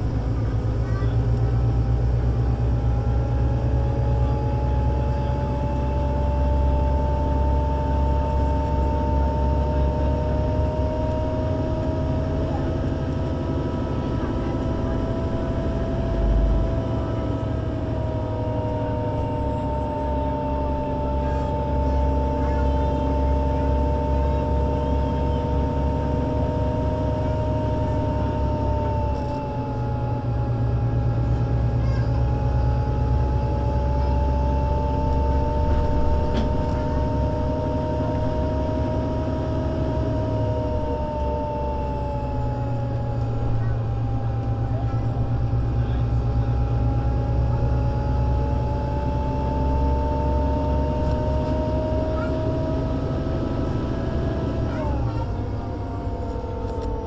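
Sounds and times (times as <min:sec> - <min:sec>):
bus engine rumble: 0:00.0 - 0:57.0.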